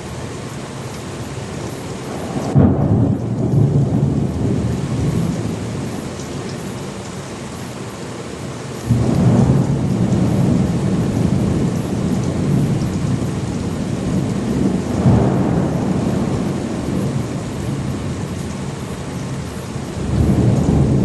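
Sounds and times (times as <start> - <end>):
rain falling steadily: 0.0 - 21.0
thunder clap and rumble: 2.1 - 7.2, 8.9 - 21.0.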